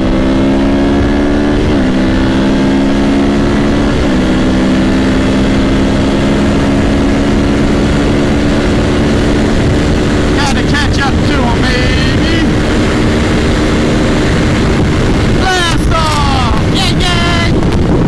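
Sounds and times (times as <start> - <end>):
motorcycle engine running: 0.0 - 18.0
wind noise: 0.0 - 18.0.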